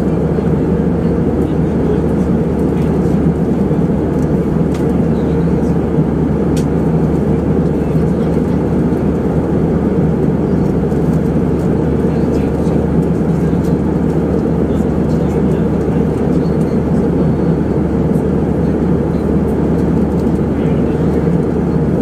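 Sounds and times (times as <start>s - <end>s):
airliner cabin engine rush: 0.0s - 22.0s.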